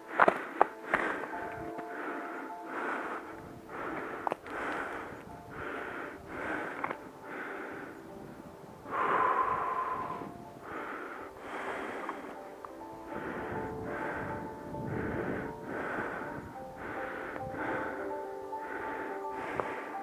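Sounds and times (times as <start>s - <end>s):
faint background music: 0.0s - 20.0s
hard rhythmic breathing: 0.0s - 20.0s.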